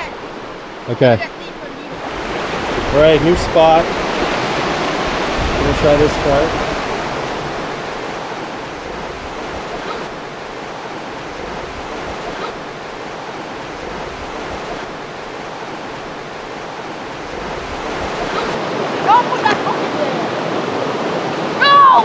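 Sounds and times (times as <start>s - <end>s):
river water rushing over rocks: 0.0s - 22.0s.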